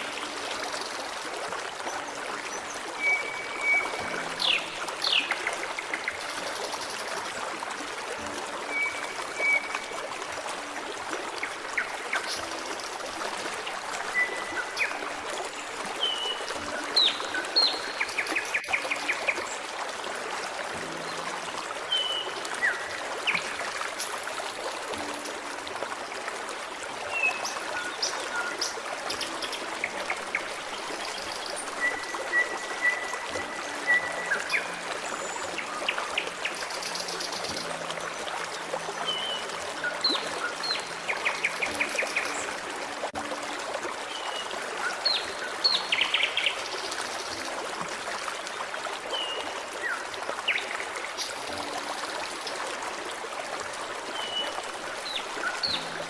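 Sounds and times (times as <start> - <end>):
forest stream babbling: 0.0 - 56.0.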